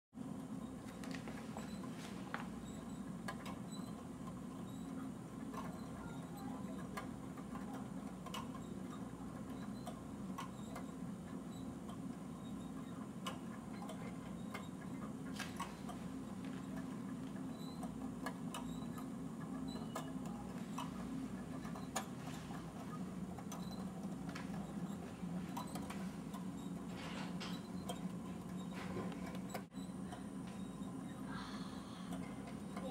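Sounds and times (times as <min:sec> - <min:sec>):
clock parts clicking and tapping: 0:00.4 - 0:31.2.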